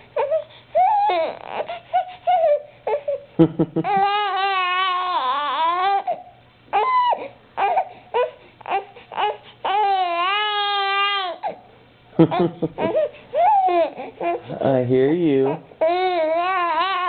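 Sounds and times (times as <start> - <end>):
baby crying: 0.2 - 11.6, 12.2 - 14.6, 15.4 - 17.0.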